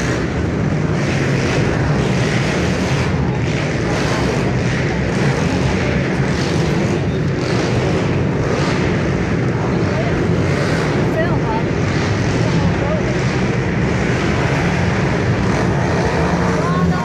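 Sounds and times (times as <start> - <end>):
pit bike engines revving: 0.0 - 17.0.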